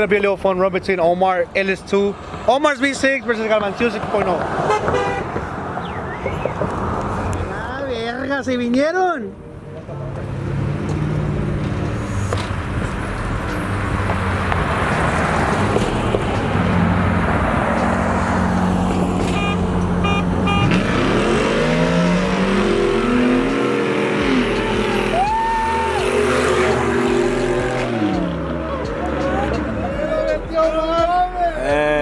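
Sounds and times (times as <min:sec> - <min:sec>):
road noise: 0:00.0 - 0:32.0
car engines at full throttle: 0:01.9 - 0:07.6, 0:10.1 - 0:32.0.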